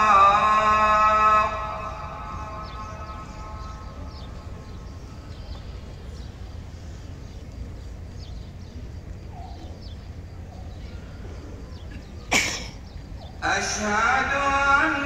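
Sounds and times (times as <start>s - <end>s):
low outdoor rumble: 0.0s - 15.0s
small birds chirping: 1.9s - 15.0s.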